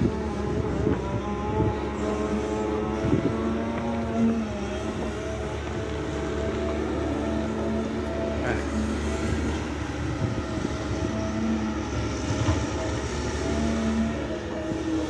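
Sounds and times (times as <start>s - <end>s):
diesel engine running: 0.0s - 15.0s
hydraulic hum: 0.0s - 15.0s.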